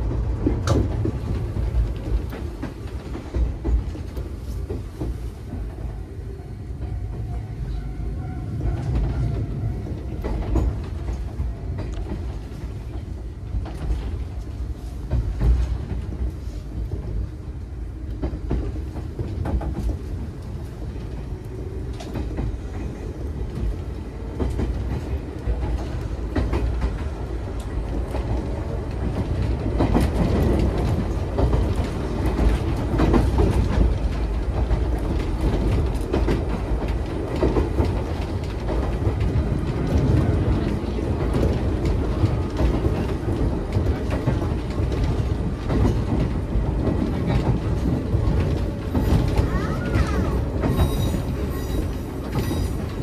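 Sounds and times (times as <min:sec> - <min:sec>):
rail-joint clicks: 0:00.0 - 0:05.9, 0:06.7 - 0:17.3, 0:18.0 - 0:53.0
train wheels rumbling on rail: 0:00.0 - 0:53.0.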